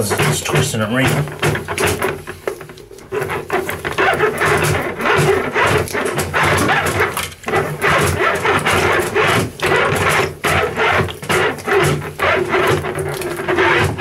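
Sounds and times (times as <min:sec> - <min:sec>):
drain auger cable rattling and scraping: 0:00.0 - 0:14.0
water sloshing in basin: 0:00.0 - 0:14.0.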